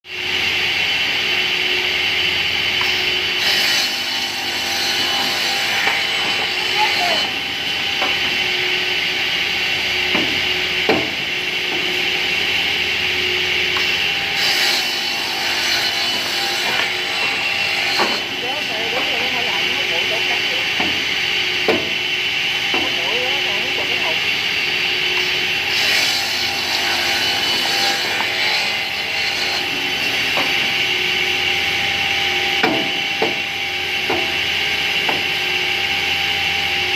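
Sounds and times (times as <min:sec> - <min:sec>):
circular saw cutting wood: 0:00.2 - 0:36.9.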